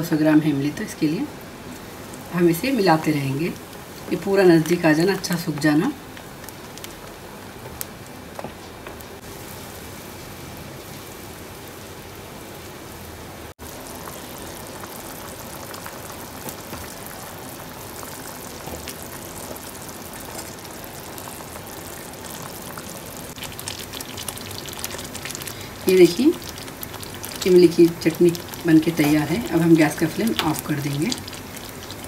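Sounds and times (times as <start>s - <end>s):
chutney bubbling in a pan: 0.2s - 12.0s, 13.6s - 32.0s.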